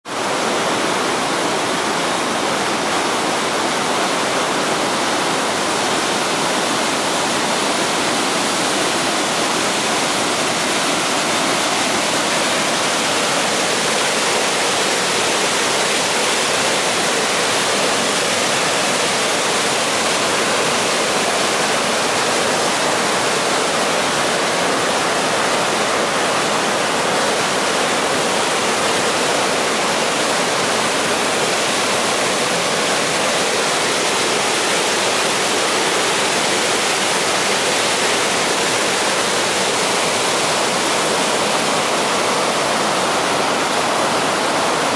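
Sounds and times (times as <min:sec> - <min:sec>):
river rushing through rock chasm: 0:00.1 - 0:44.9.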